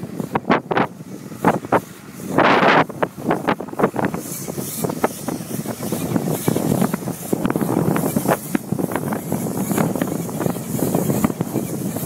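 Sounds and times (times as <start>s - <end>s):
tractor engine: 0.0s - 12.0s
wind buffeting microphone: 0.0s - 12.0s.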